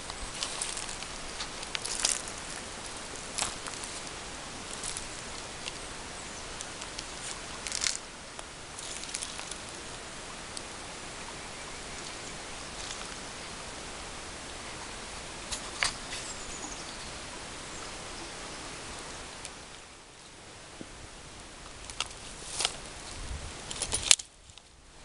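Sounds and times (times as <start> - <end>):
rustling in dry leaves: 0.0 - 25.0
steady outdoor hiss: 0.0 - 25.0.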